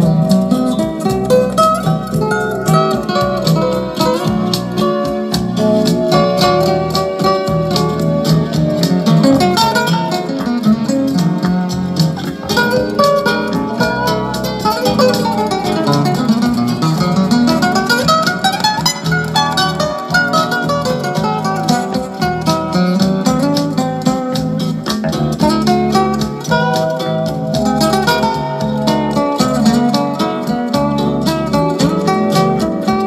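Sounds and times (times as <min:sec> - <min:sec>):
plucked guitar music: 0:00.0 - 0:33.0.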